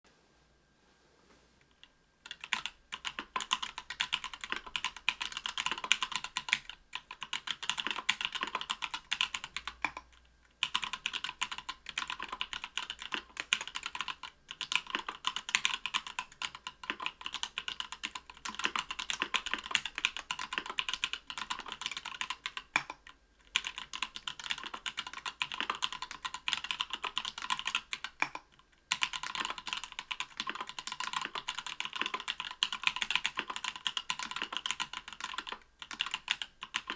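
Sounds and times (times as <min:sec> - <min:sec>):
fast mechanical keyboard typing: 0:02.2 - 0:36.9.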